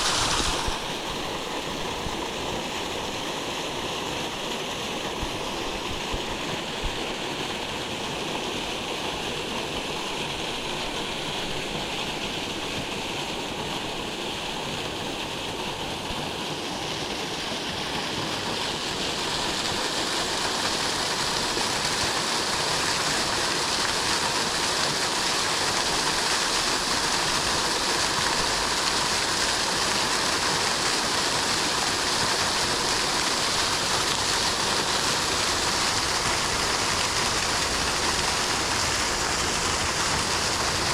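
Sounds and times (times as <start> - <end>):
water rushing in a stream: 0.0 - 40.9.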